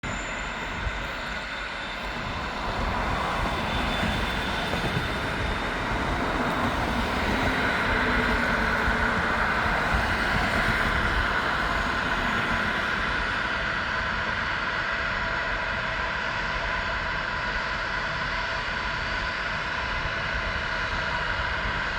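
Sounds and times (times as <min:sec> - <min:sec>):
jet airliner engines running: 0:00.0 - 0:21.9.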